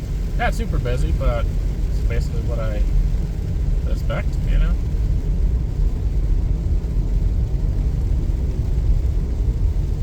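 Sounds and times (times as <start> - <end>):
car driving on wet road: 0.0 - 10.0.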